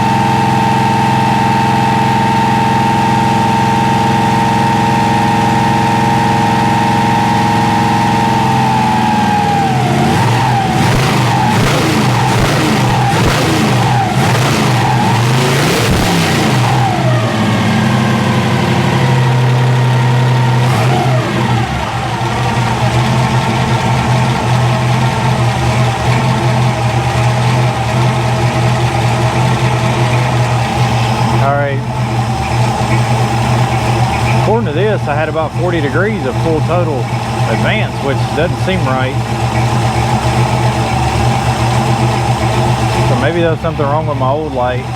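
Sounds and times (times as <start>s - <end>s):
engine revving and idling: 0.0s - 44.9s.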